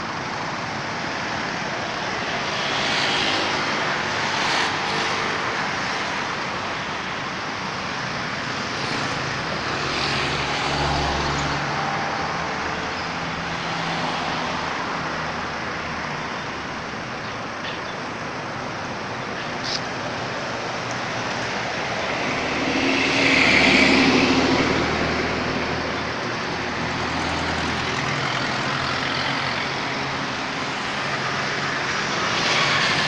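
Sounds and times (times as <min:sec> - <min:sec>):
road traffic: 0:00.0 - 0:33.0
vehicles passing: 0:00.0 - 0:33.0.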